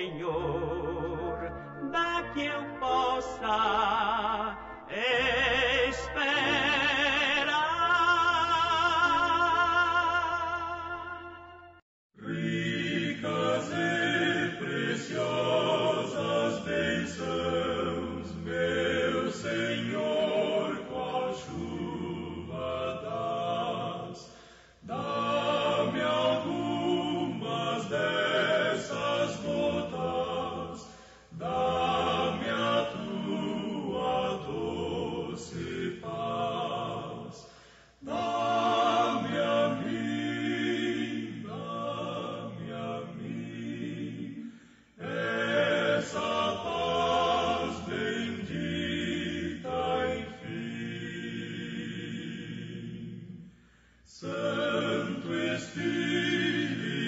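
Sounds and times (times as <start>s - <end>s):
choir singing a hymn: 0.0s - 11.2s, 12.2s - 53.5s, 54.1s - 57.0s.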